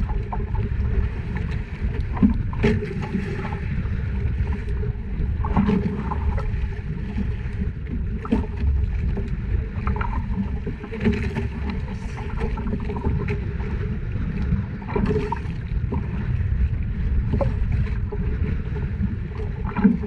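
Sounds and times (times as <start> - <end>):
boat engine low rumble: 0.0 - 20.0
water noise: 0.0 - 20.0
wind noise: 0.0 - 20.0.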